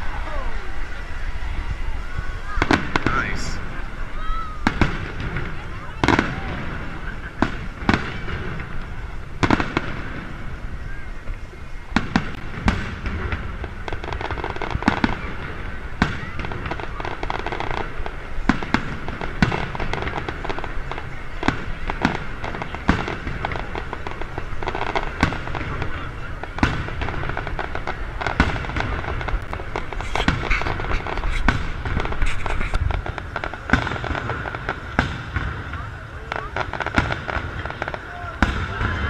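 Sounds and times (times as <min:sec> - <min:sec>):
background hubbub: 0:00.0 - 0:39.0
fireworks bursting with sharp bangs: 0:00.0 - 0:39.0.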